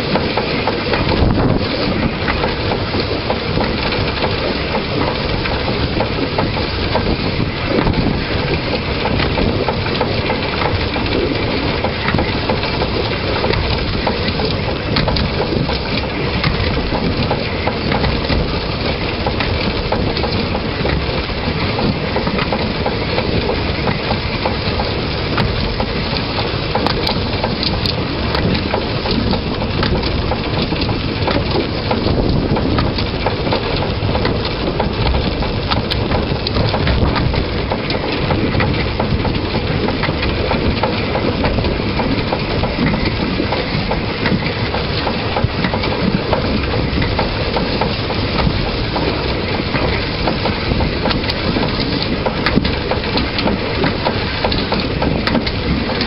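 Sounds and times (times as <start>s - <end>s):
steady rumble: 0.0s - 56.0s
train wheels clattering on rails: 0.0s - 56.0s.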